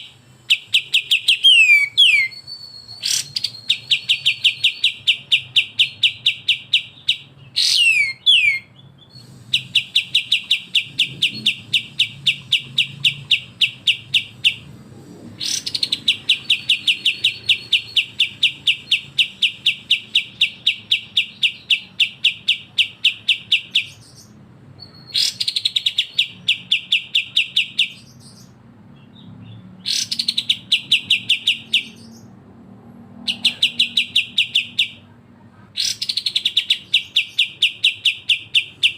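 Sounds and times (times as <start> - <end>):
down-slurred bird whistles: 0.0 - 14.7, 15.4 - 32.3, 33.2 - 35.0.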